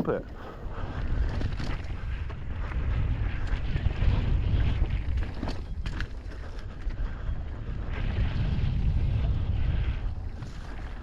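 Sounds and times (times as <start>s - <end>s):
bike low rumble on dirt trail: 0.0s - 11.0s
wind buffeting microphone: 0.0s - 11.0s.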